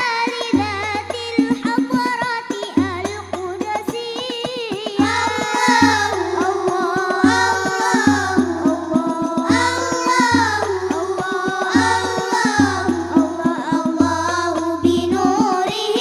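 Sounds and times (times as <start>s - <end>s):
children singing through a pa: 0.0s - 16.0s
frame drums in fast rhythm: 0.0s - 16.0s.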